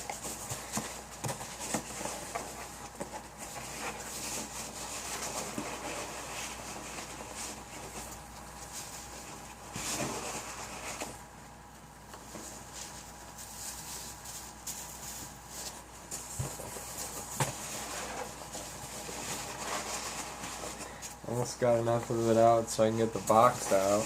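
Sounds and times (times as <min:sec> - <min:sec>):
styrofoam packing rustling: 0:00.0 - 0:24.0.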